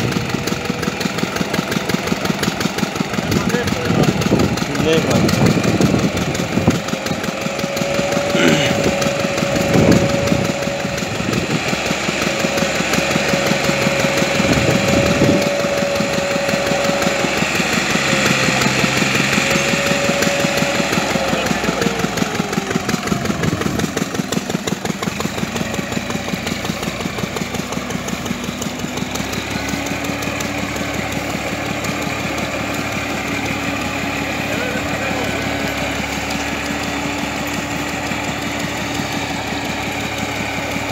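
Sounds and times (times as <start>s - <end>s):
engine whine: 0.0s - 40.9s
tractor diesel engine chugging: 0.0s - 40.9s.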